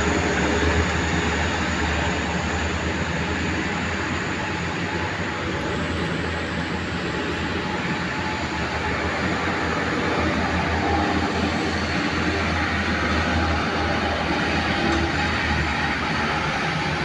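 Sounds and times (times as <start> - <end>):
road and wind noise: 0.0 - 17.0
truck diesel engine droning: 0.0 - 17.0.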